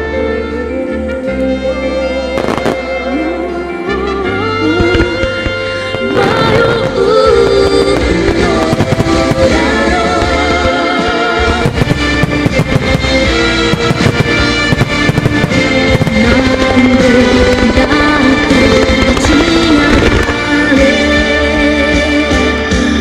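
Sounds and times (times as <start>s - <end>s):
song playing loudly: 0.0s - 23.0s
firework bangs and crackles: 2.3s - 3.0s, 4.8s - 22.8s.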